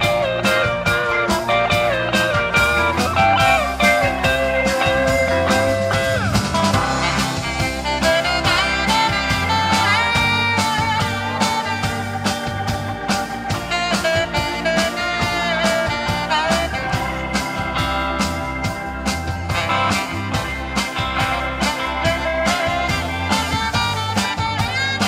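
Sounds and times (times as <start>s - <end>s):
drum kit: 0.0s - 25.0s
electric bass: 0.0s - 25.0s
electric guitar lead: 0.0s - 25.0s
keyboard: 0.0s - 25.0s.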